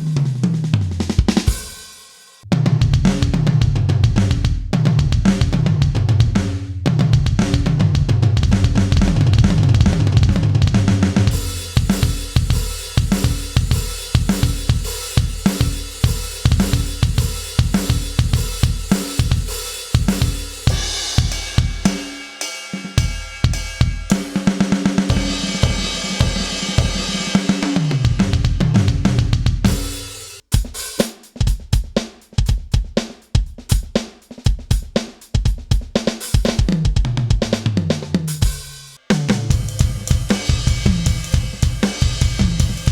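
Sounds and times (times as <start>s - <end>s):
electronic drum groove: 0.0s - 42.9s.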